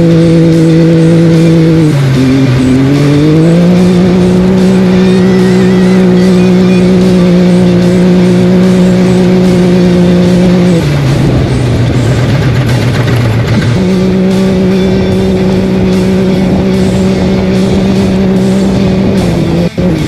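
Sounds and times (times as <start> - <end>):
engine at high revs: 0.0 - 20.0.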